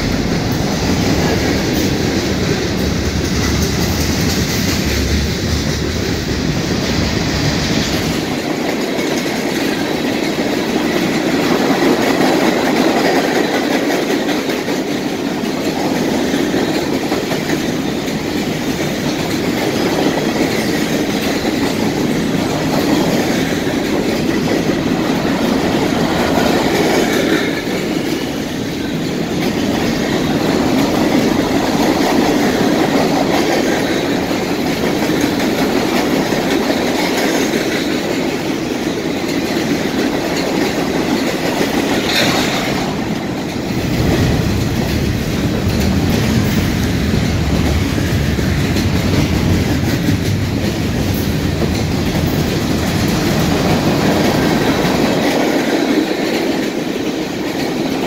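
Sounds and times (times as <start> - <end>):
freight train cars rolling: 0.0 - 58.0
wheels clacking over rail joints: 0.0 - 58.0.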